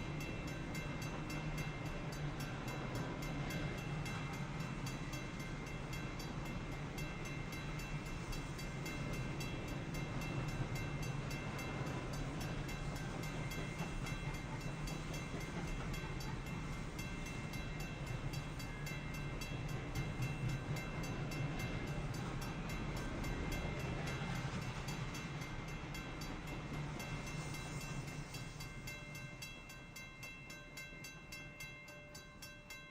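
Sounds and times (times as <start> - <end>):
freight train rumbling past: 0.0 - 32.9
railroad crossing bell ringing: 0.0 - 32.9.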